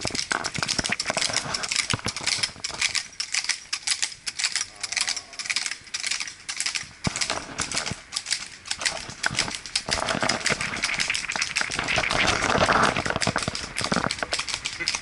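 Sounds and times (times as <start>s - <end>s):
horse hooves on pavement: 0.0s - 15.0s.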